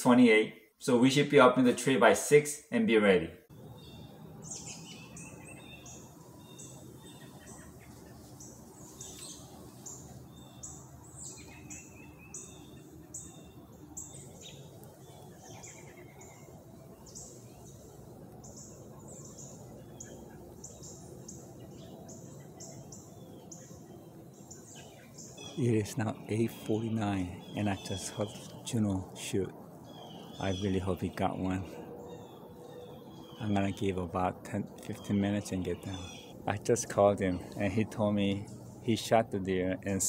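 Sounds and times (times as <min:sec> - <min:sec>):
faint birds chirping: 0:00.0 - 0:40.0.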